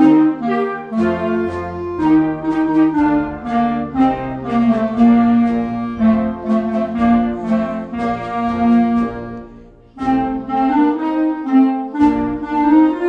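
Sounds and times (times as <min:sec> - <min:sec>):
clarinet ensemble playing: 0:00.0 - 0:13.0.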